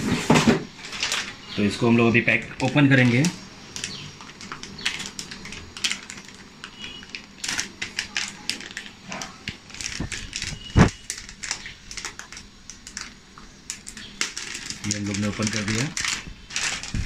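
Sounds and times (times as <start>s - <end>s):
plastic bag crinkling: 0.7s - 17.0s.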